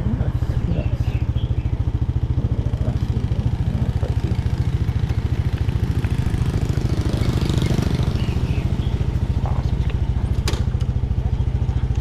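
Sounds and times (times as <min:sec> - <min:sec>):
motorbike engine chugging: 0:00.0 - 0:12.0.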